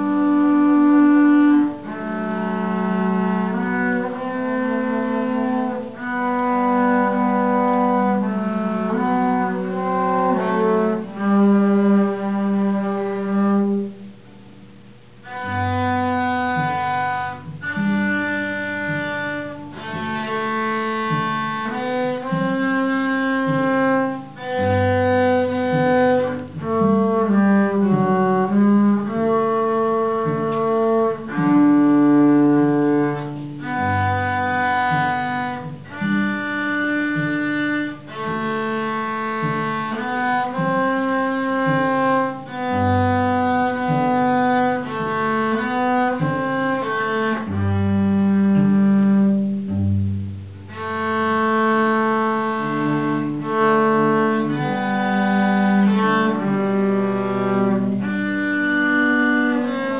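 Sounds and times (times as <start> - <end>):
cellos playing bowed duet: 0.0 - 14.2, 15.1 - 59.9.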